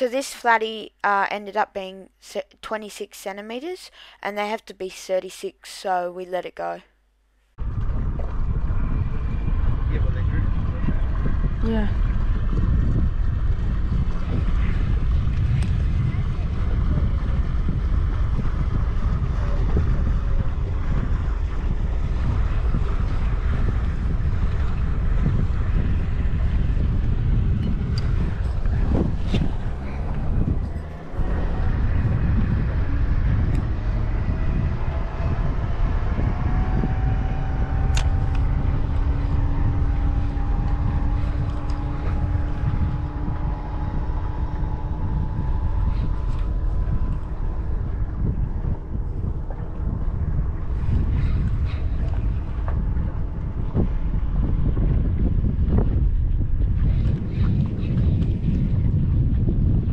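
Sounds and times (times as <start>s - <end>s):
outboard motor running: 7.6s - 59.9s
wind buffeting microphone: 7.6s - 59.9s.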